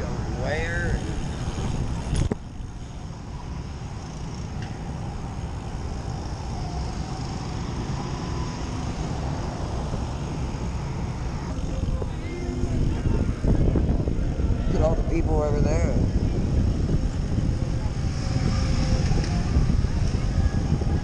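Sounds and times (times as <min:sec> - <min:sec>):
road traffic: 0:00.0 - 0:21.0
wind rumbling on microphone: 0:00.0 - 0:21.0.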